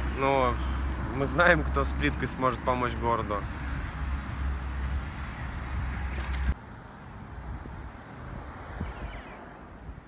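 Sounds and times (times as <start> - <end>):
faint outdoor background: 0.0 - 10.0
low rumble of traffic: 0.0 - 10.0.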